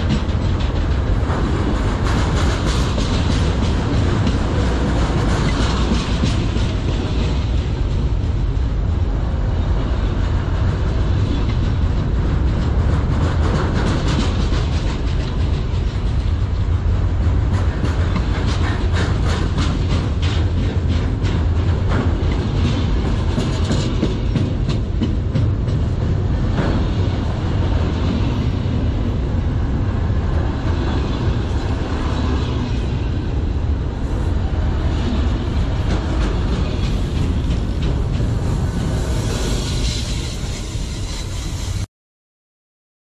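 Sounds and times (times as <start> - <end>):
train wheel clacks: 0.0 - 29.5, 34.8 - 41.9
freight train rumbling: 0.0 - 41.9.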